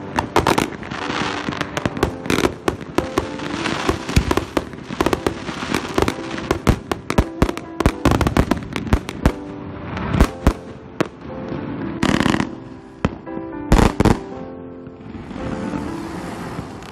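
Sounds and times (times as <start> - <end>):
fireworks bangs and pops: 0.0 - 14.3
fireworks crackling: 0.0 - 14.4, 15.0 - 16.9.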